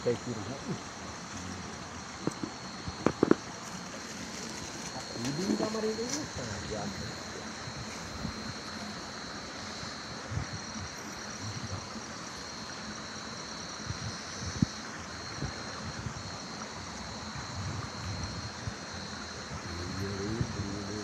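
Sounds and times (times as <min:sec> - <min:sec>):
thin high whine: 0:00.0 - 0:21.0.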